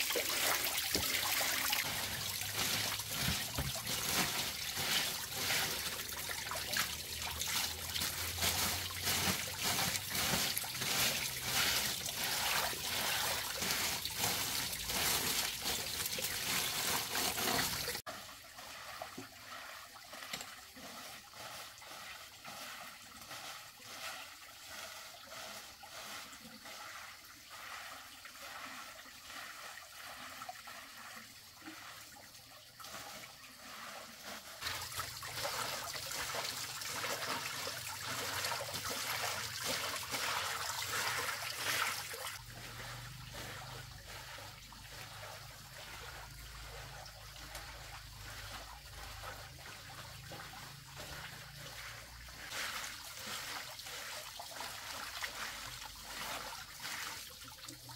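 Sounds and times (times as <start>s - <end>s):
water running and splashing: 0.0s - 57.9s
water trickling: 0.0s - 57.9s.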